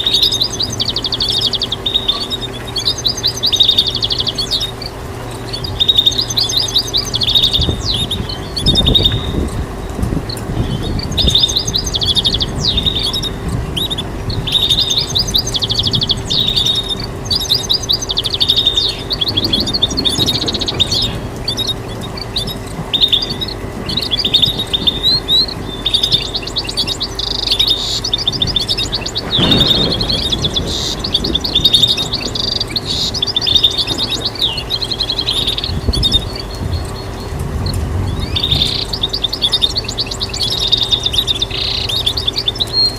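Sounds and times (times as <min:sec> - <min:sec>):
faint steady hum: 0:00.0 - 0:42.9
goldfinch singing: 0:00.0 - 0:42.9.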